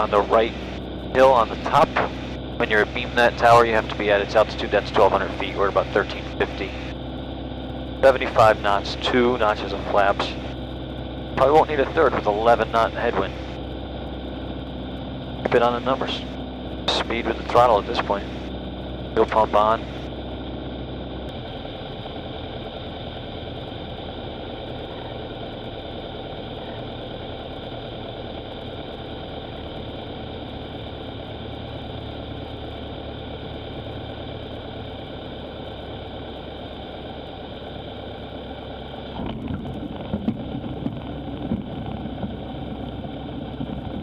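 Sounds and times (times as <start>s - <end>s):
airplane engine drone: 0.0s - 44.0s
wheels rumbling on runway: 0.0s - 44.0s.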